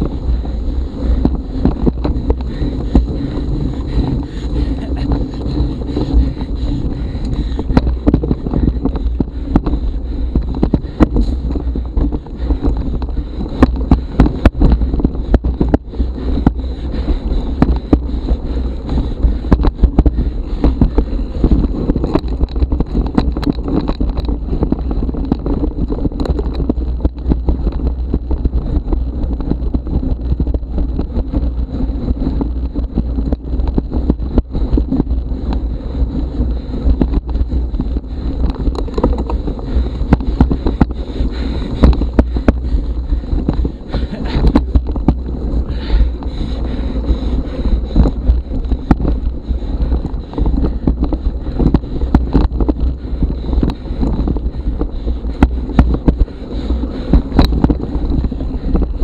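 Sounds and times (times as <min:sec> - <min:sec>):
bike knocking and rattling: 0:00.0 - 0:59.0
wind rumble on microphone: 0:00.0 - 0:59.0.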